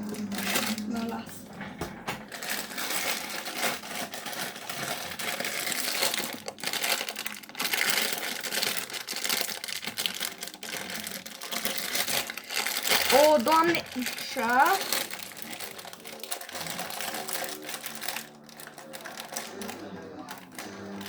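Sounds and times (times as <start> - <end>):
packaging crinkling: 0.0 - 1.3, 2.2 - 21.0.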